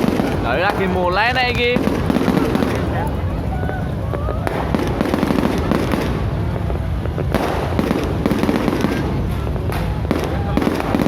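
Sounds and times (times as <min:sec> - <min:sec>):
constant low rumble: 0:00.0 - 0:11.0
fireworks bangs and crackles: 0:00.0 - 0:11.0.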